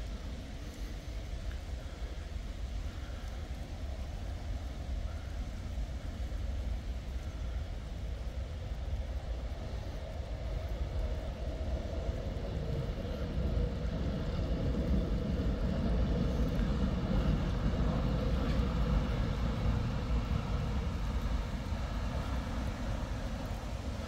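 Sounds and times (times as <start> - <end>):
faint steady whine: 0.0 - 24.0
tram rumbling on track: 0.0 - 24.0.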